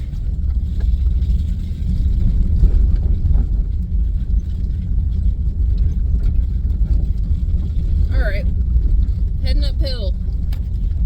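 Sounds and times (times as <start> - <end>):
light rattles and knocks: 0.0 - 11.0
vehicle engine and road rumble: 0.0 - 11.0.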